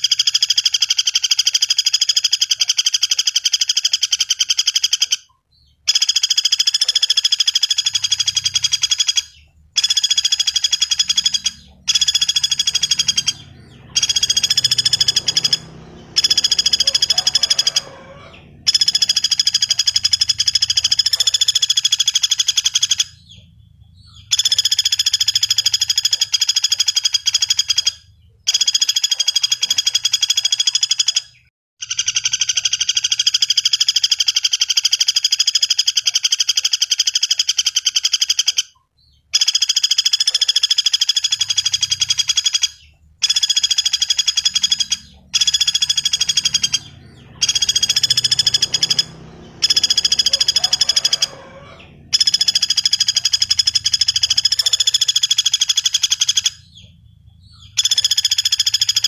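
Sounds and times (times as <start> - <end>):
woodpecker rattling trills: 0.0 - 59.0.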